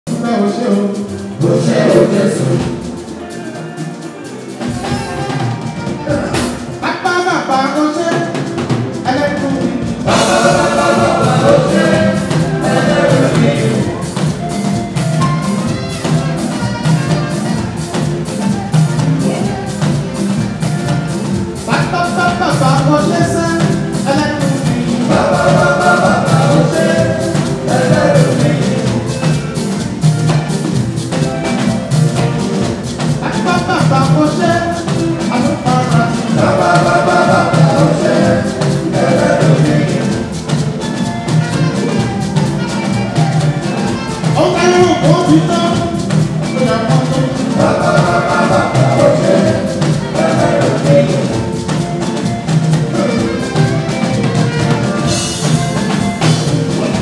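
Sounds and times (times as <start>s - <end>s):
male voices singing: 0.1s - 30.6s, 31.5s - 57.0s
drum kit beat: 0.1s - 57.0s
guitars: 0.1s - 57.0s
horns: 0.1s - 57.0s.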